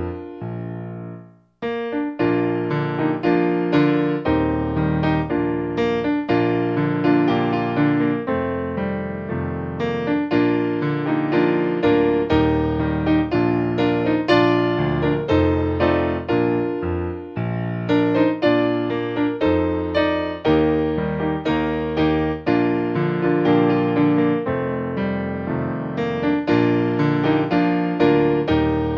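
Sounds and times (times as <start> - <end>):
piano background music: 0.0 - 28.9.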